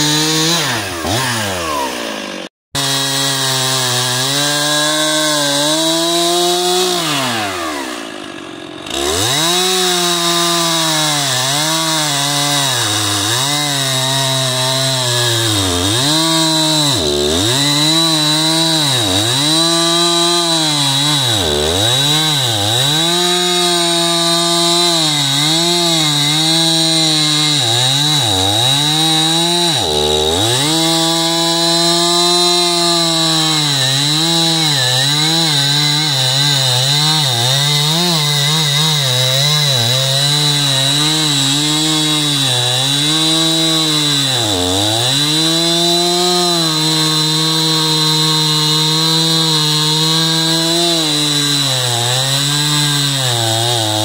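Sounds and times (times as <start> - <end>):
chainsaw cutting tree: 0.0 - 54.0.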